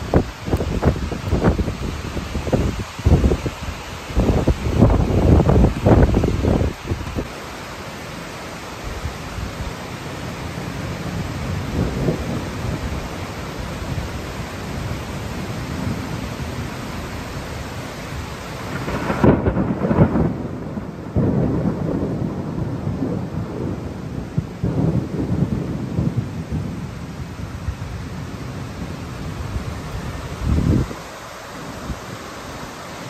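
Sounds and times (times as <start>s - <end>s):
torrential rain pouring: 0.0s - 33.0s.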